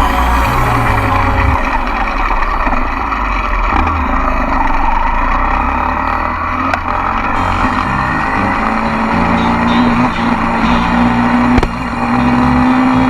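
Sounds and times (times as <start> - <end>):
wind and road noise: 1.0 - 13.0.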